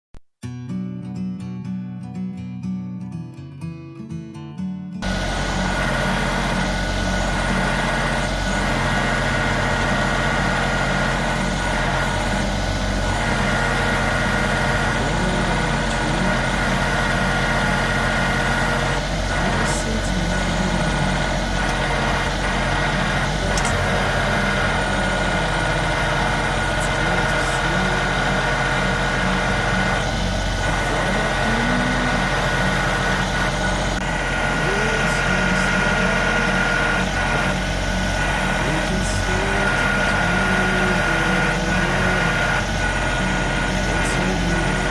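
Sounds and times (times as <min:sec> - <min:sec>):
high whine: 0:05.0 - 0:44.9
tractor engine running: 0:05.0 - 0:44.9.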